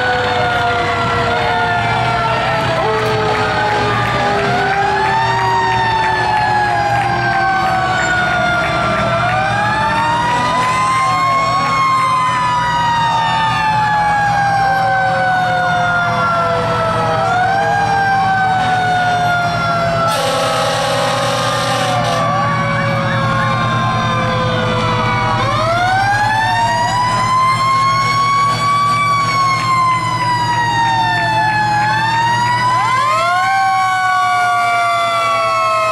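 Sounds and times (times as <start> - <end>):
fire truck sirens wailing: 0.0 - 35.9
truck engines rumbling: 0.0 - 35.9.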